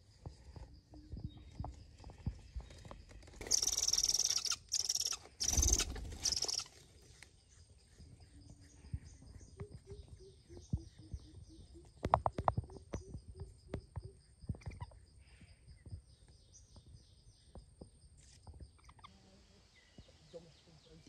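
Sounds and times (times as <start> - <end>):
insects trilling: 0.2 - 21.0.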